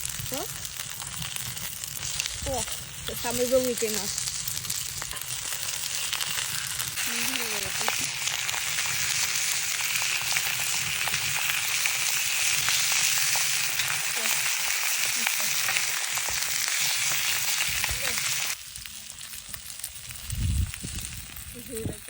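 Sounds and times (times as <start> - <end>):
steak sizzling: 0.0 - 22.0.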